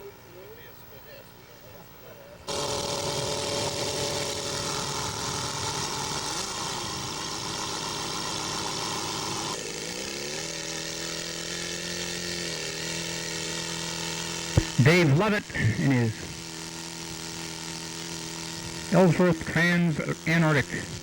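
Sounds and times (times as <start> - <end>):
model aircraft engine running: 2.0 - 21.0
model engine revving up: 2.5 - 21.0.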